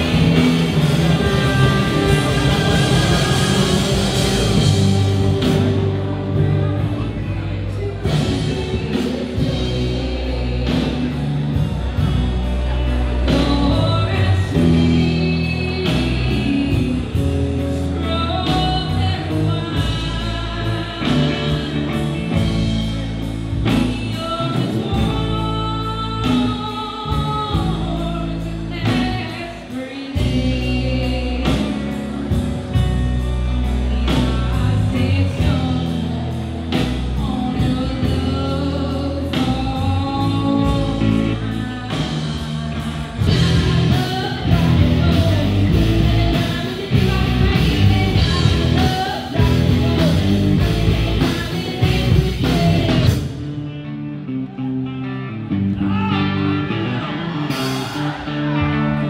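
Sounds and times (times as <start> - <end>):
woman singing into microphone: 0.0 - 22.7, 23.5 - 32.6, 33.2 - 53.4
live rock band playing: 0.0 - 59.0.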